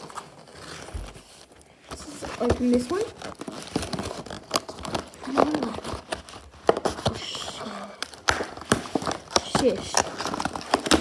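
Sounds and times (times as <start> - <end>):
toy packaging being opened: 0.0 - 11.0.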